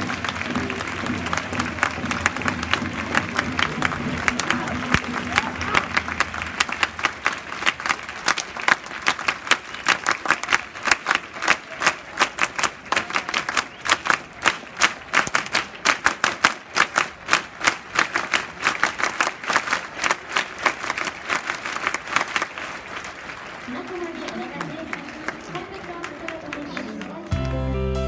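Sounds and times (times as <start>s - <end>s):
hand clapping: 0.0s - 23.4s
stadium crowd applause: 0.0s - 27.5s.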